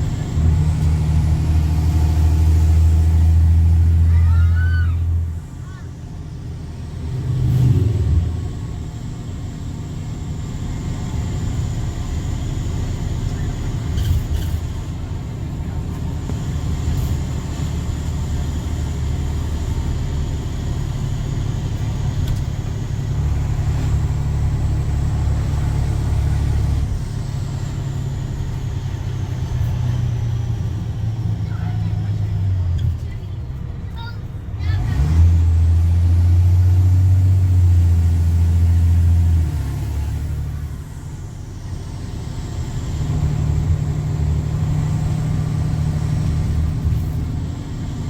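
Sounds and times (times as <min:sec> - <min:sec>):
diesel bus exhaust rumble: 0:00.0 - 0:48.0.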